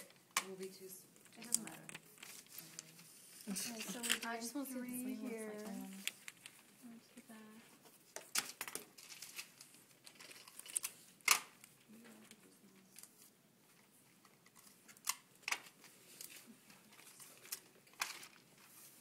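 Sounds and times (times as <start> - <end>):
tape being handled: 0.0 - 4.5, 5.3 - 6.8, 7.7 - 11.9, 12.8 - 19.0
paper rustling and crinkling: 1.2 - 6.8, 7.6 - 19.0.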